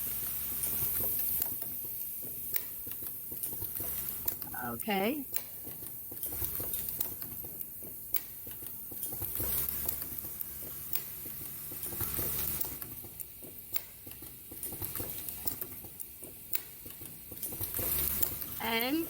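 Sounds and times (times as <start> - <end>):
machine clicking and rattling: 0.6 - 4.5, 5.3 - 19.0.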